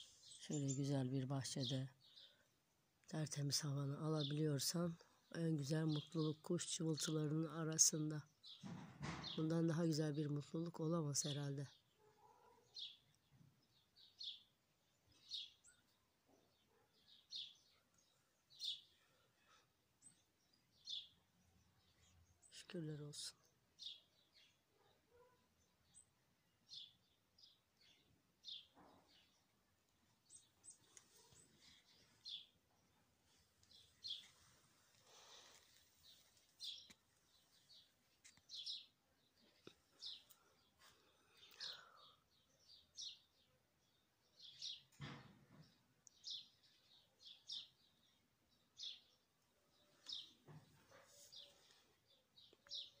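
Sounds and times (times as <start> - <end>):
small songbirds chirping: 0.0 - 53.0.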